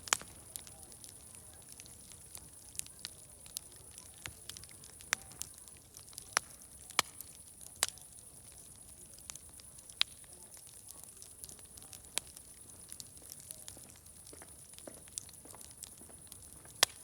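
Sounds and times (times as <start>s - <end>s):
wood fire popping: 0.0s - 17.0s.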